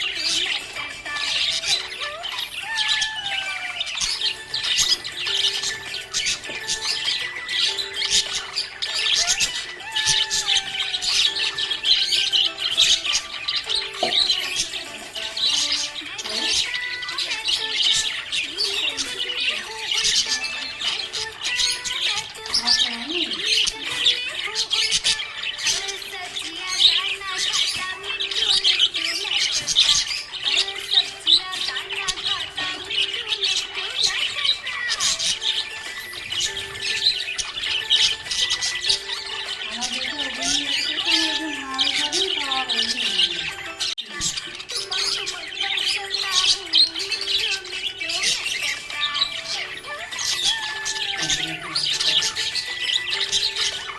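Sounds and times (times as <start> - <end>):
background music slow melody: 0.0 - 53.9
budgerigars chirping and chattering: 0.0 - 53.9.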